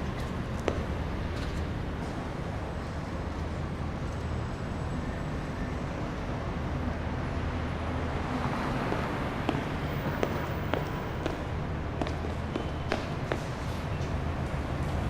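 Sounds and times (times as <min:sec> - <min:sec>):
low traffic rumble and hum: 0:00.0 - 0:15.0.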